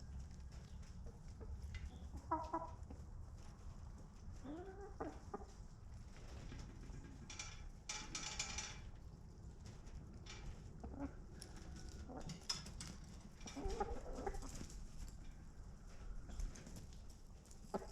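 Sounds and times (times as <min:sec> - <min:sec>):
chickens clucking: 0:00.2 - 0:07.3, 0:10.4 - 0:17.9.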